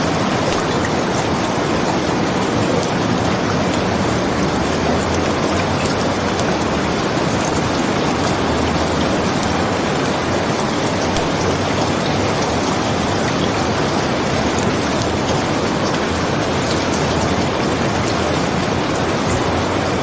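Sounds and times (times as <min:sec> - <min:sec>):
heavy rain hissing: 0:00.0 - 0:20.0
raindrops ticking: 0:00.0 - 0:20.0.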